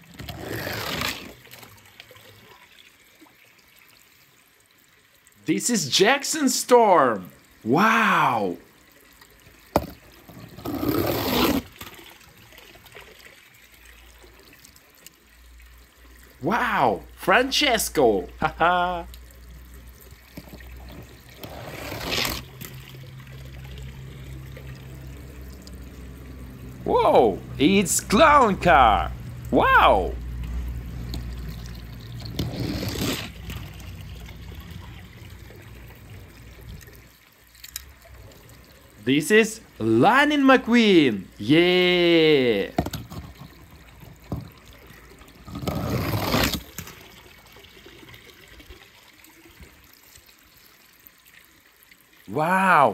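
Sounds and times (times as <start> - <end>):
water splashing in a plastic tub: 0.0 - 52.9.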